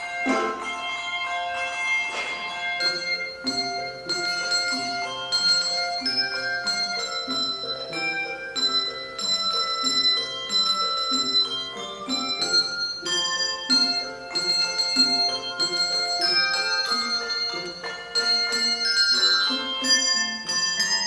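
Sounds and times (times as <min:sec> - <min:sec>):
handbell choir ringing a tune: 0:00.0 - 0:21.0
low bass bells: 0:00.0 - 0:21.0.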